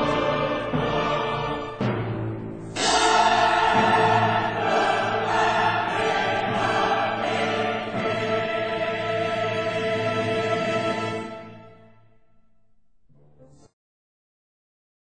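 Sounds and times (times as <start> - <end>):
choir singing held chords: 0.0 - 12.2.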